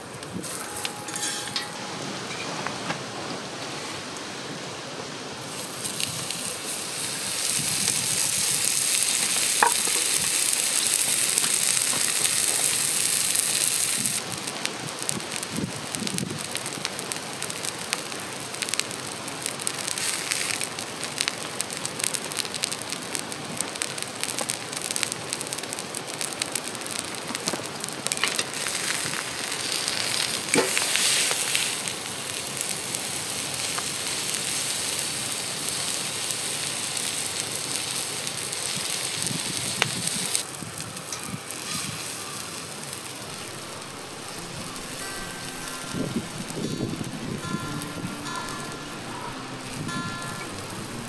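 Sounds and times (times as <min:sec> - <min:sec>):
fire crackling: 0:00.0 - 0:51.0
steak sizzling on a griddle: 0:05.5 - 0:51.0.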